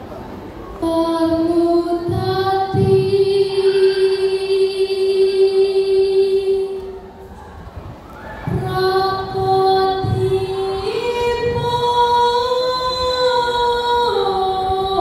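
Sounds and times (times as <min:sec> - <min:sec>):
girl singing into a microphone: 0:00.6 - 0:07.3, 0:08.2 - 0:15.0.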